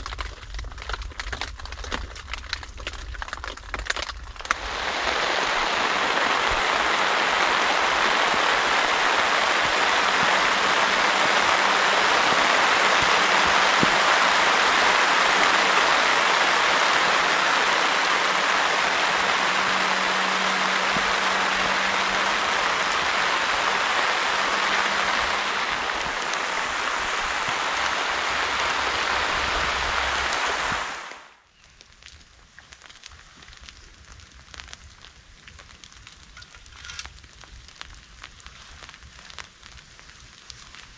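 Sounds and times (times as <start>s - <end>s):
heavy rain falling: 4.4s - 31.4s, 33.0s - 40.9s.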